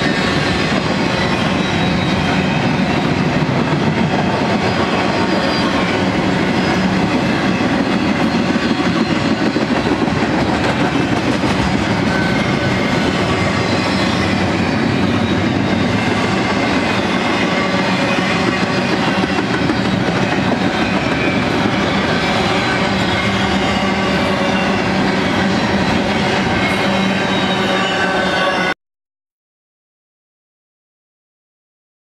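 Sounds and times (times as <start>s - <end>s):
steel wheels rumbling on rail: 0.0s - 28.7s.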